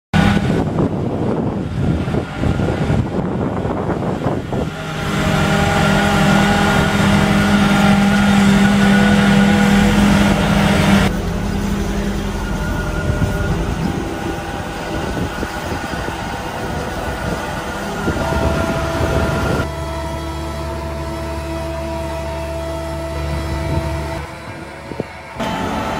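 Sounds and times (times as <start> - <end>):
tracked vehicle engine droning: 0.1 - 25.9.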